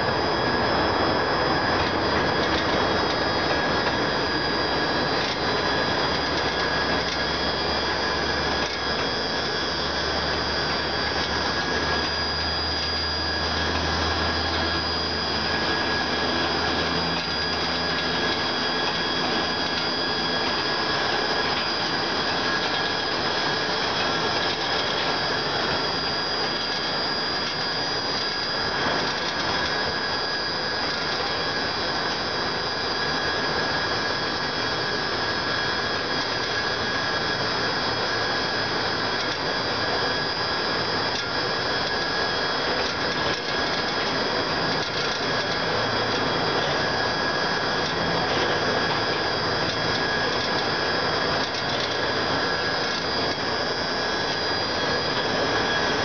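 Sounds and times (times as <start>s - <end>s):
hoist drive mechanical whine: 0.0s - 56.0s.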